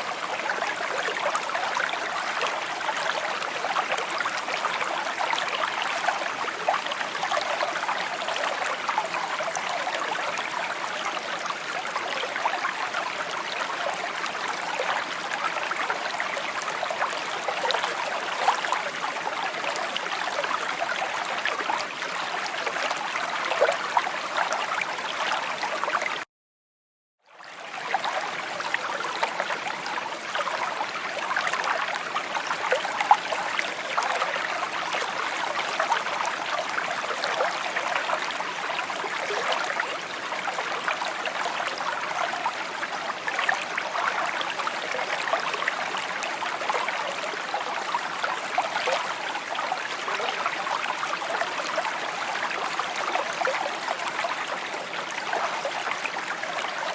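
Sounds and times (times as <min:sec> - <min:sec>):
stream babbling over stones: 0:00.0 - 0:26.2, 0:27.5 - 0:56.9.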